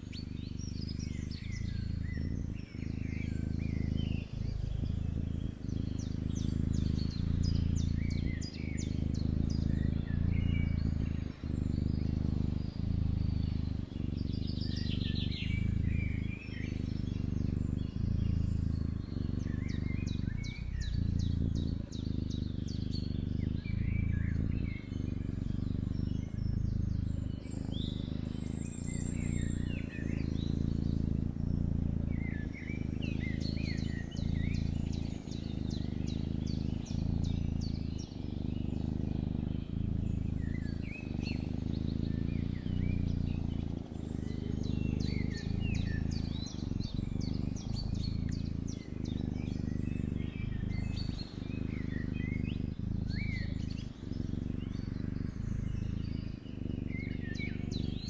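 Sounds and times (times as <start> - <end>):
small birds chirping: 0.0 - 58.0
loud low hum: 1.0 - 27.6, 28.3 - 39.0, 39.6 - 51.7.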